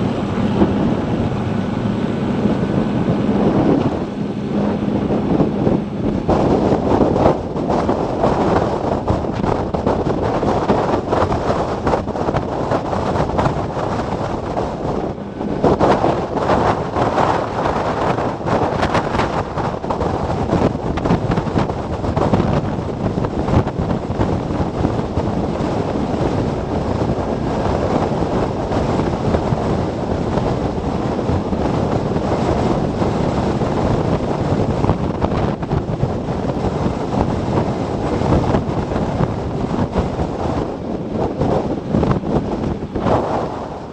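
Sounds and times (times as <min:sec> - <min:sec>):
wind blowing across microphone: 0:00.0 - 0:43.9.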